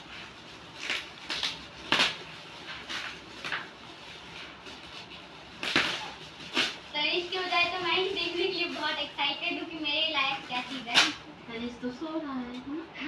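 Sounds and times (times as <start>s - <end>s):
gift wrap crinkling: 0.0s - 11.2s.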